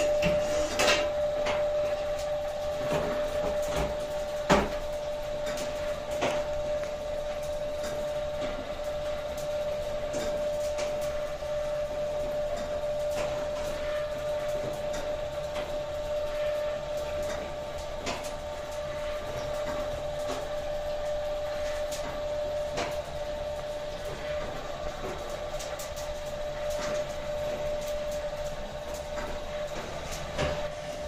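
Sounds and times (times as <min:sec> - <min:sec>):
burning wood crackling: 0:00.0 - 0:31.0
machine hum: 0:00.0 - 0:31.0.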